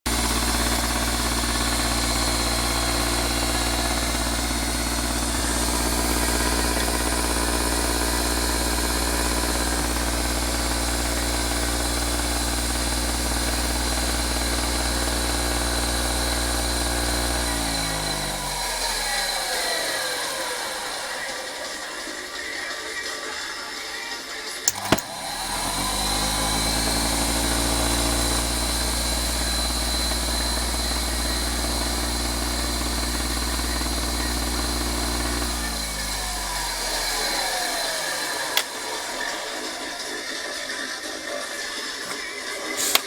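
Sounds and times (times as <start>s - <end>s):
engine running and winding down: 0.0s - 23.2s, 24.6s - 43.0s.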